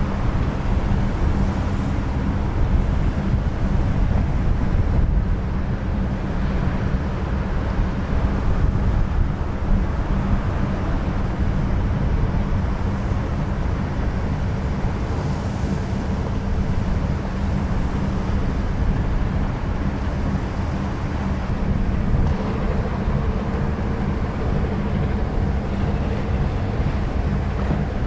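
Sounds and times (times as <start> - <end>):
ship engine drone: 0.0 - 28.0
wind buffeting microphone: 0.0 - 28.0.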